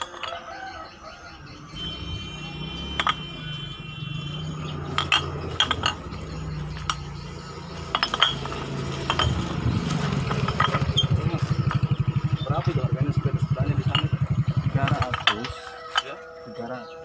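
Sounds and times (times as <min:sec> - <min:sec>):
glass bottles clinking: 0:00.0 - 0:01.2, 0:02.7 - 0:03.6, 0:04.4 - 0:17.0.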